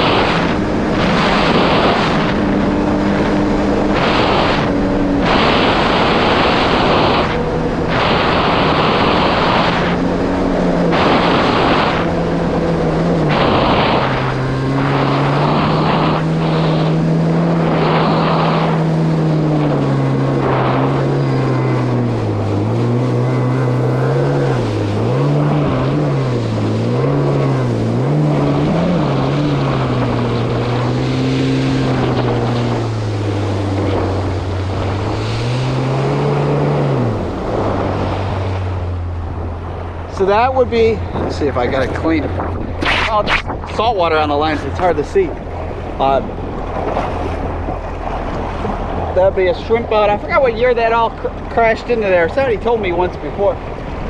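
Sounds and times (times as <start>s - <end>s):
whooshes of spray and wind: 0.0s - 50.8s
personal watercraft engine running: 0.0s - 54.0s.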